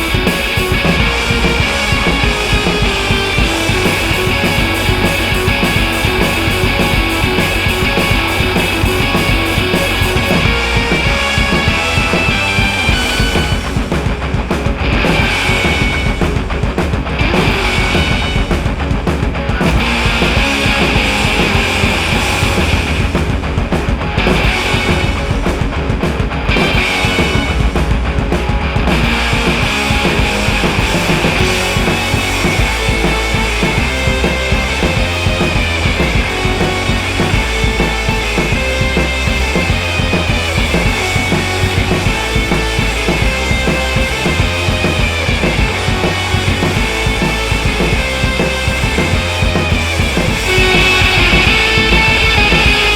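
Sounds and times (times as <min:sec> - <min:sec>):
loud rock music: 0:00.0 - 0:52.9.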